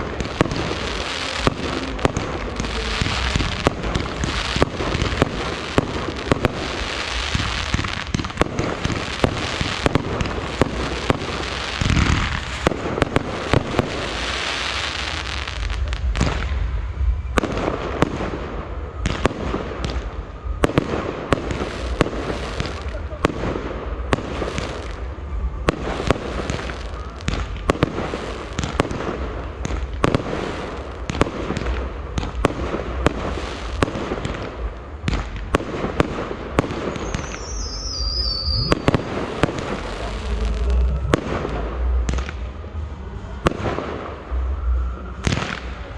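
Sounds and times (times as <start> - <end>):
fireworks bangs: 0.0 - 45.9
fireworks crackle and hiss: 0.0 - 45.9.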